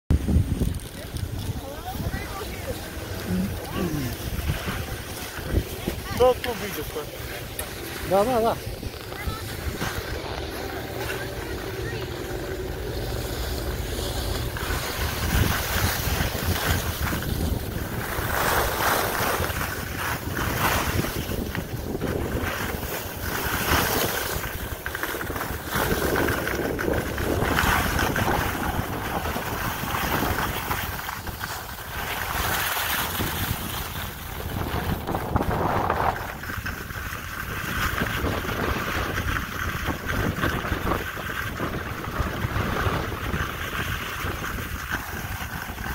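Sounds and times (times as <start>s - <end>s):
skis sliding on snow: 0.1s - 45.9s
wind rushing over microphone: 0.1s - 45.9s.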